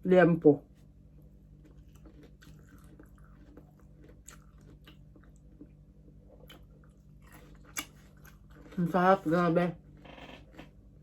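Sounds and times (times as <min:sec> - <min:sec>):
steady low hum: 0:00.0 - 0:11.0
chewing crispy food: 0:01.2 - 0:10.8.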